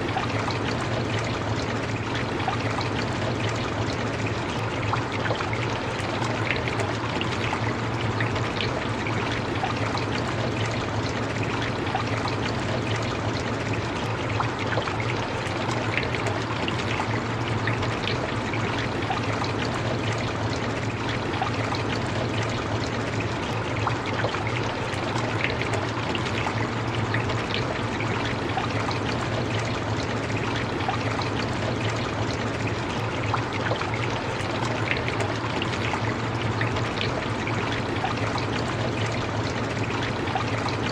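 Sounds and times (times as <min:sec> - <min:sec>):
low steady rumble: 0:00.0 - 0:40.9.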